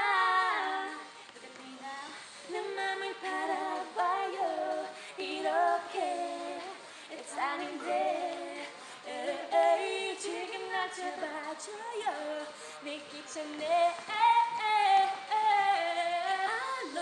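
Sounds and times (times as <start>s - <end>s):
women singing into microphones: 0.0s - 17.0s.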